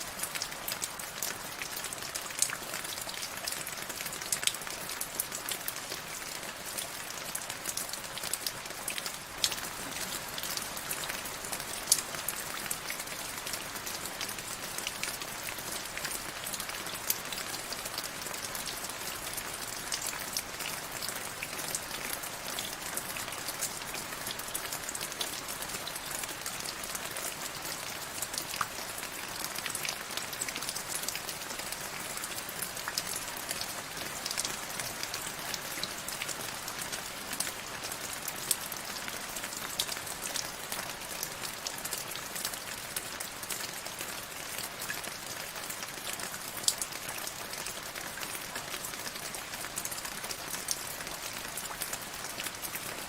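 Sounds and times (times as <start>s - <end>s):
steady rain on hard surface: 0.0s - 53.0s.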